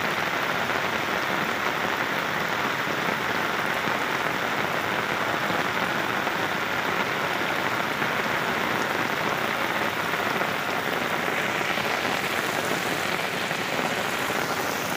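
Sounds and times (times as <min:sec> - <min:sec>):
floodwater rushing: 0:00.0 - 0:14.9.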